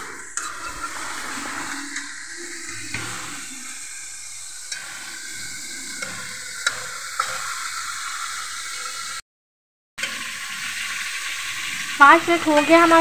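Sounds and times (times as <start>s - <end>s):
chicken sizzling in hot oil: 0.0s - 9.2s, 10.0s - 13.0s.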